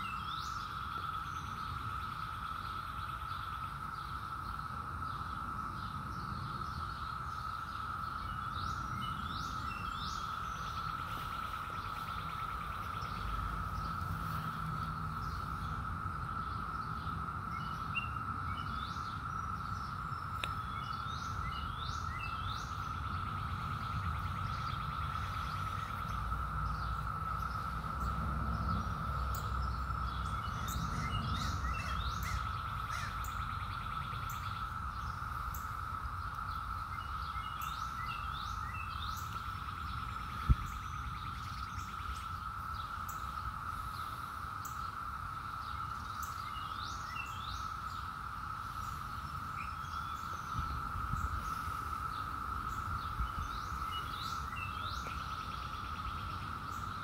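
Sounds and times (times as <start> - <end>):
birds chirping: 0.0 - 57.0
cicadas droning: 0.0 - 57.0.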